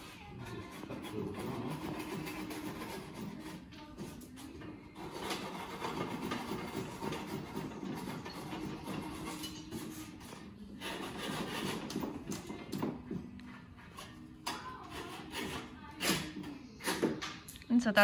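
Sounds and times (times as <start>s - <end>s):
saw scraping through wooden dowels: 0.0s - 4.2s, 4.9s - 12.7s, 13.9s - 17.2s.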